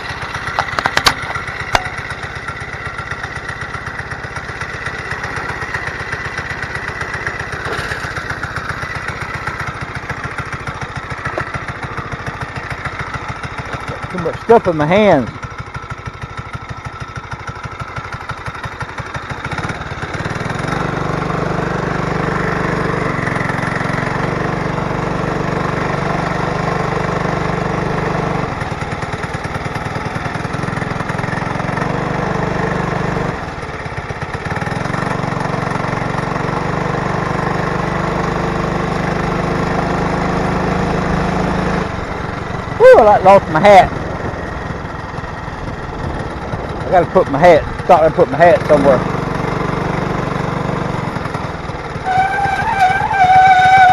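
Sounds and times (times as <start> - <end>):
small gas engine revving: 0.0 - 53.9.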